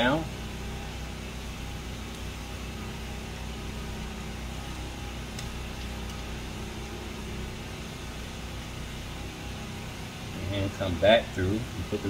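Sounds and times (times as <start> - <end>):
generator engine hum: 0.0 - 12.0.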